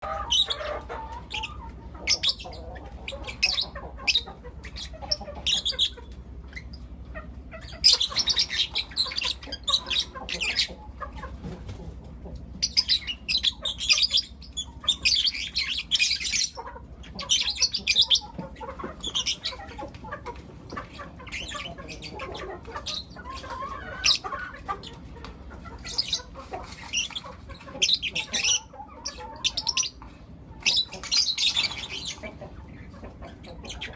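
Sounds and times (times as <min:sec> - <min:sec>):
lovebirds chirping: 0:00.1 - 0:11.5, 0:12.5 - 0:33.9.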